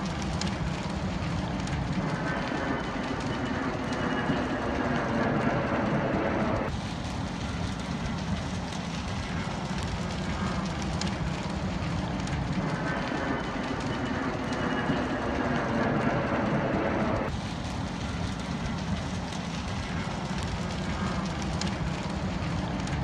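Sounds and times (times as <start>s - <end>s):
faint crackles: 0.0s - 23.0s
rumbling outdoor noise: 0.0s - 23.0s.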